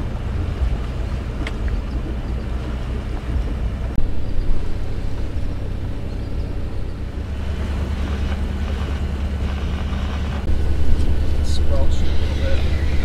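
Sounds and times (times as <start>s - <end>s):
boat engine humming: 0.0s - 13.0s
water noise: 0.0s - 13.0s
wind on microphone: 0.0s - 13.0s.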